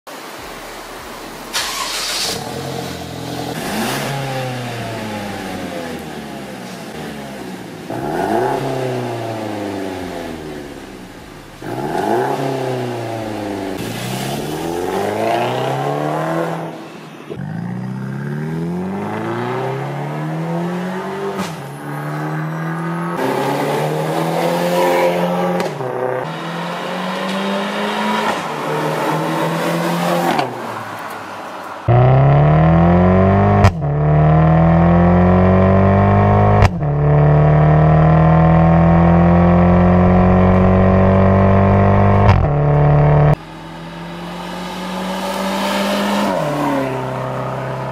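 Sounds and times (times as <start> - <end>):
car engine revving: 0.4 - 30.9, 31.8 - 47.9.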